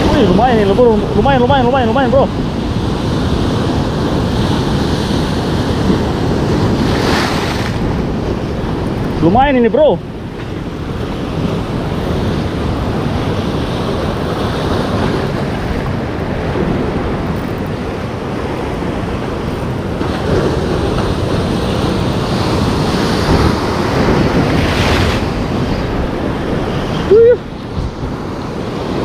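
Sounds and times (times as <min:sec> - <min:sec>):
surf crashing on rocks: 0:00.0 - 0:29.0
wind buffeting microphone: 0:00.0 - 0:29.0.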